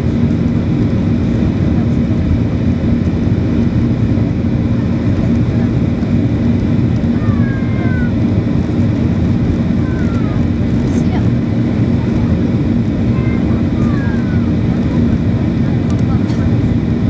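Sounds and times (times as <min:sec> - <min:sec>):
jet engines at climb power: 0:00.0 - 0:17.0.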